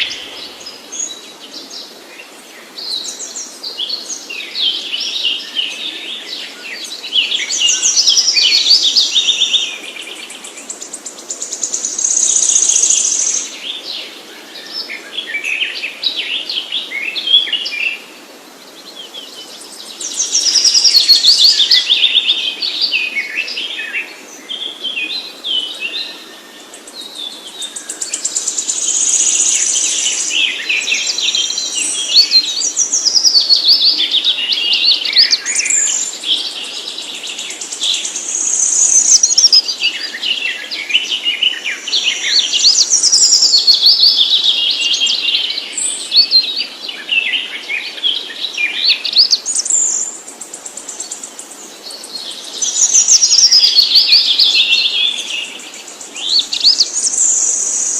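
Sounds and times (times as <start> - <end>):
songbird chirps and trills: 0.0 - 57.9.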